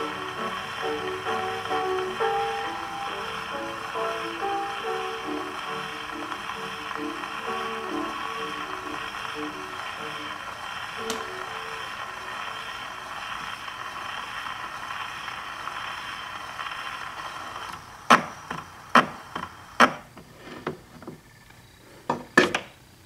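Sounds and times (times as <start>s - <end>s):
phonograph needle surface hiss: 0.0s - 23.0s.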